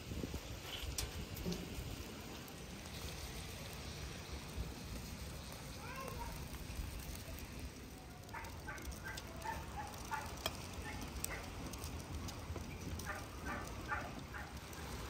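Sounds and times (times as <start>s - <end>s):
seafood sizzling in a frying pan: 0.0s - 15.0s.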